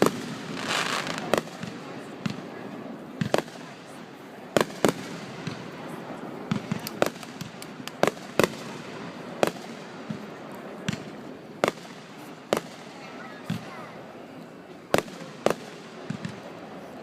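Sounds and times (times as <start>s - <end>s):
fireworks bangs: 0.0s - 13.9s, 14.9s - 16.8s.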